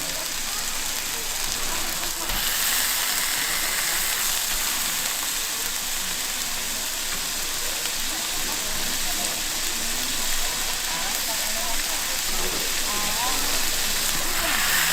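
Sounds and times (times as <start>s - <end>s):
steak sizzling: 0.0s - 14.9s.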